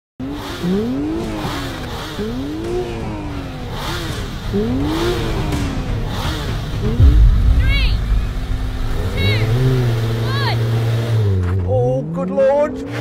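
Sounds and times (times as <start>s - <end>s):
engine throttle blips: 0.4s - 11.7s.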